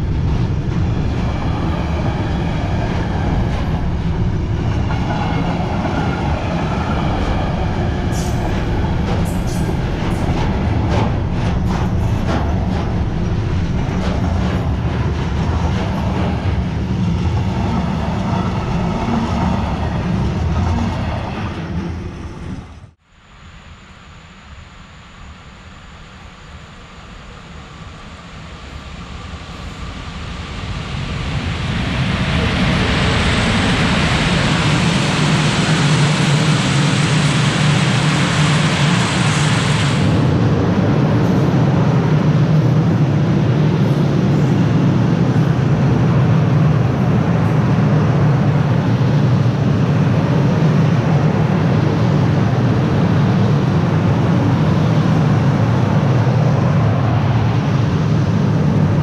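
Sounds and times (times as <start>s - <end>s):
wheels rumbling on rail: 0.0s - 23.0s, 26.6s - 59.0s
freight train passing: 0.0s - 59.0s.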